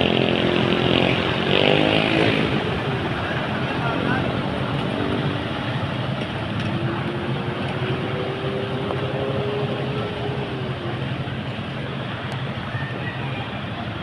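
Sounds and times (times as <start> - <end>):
street noise: 0.0 - 14.0
vehicle engine running: 0.0 - 14.0.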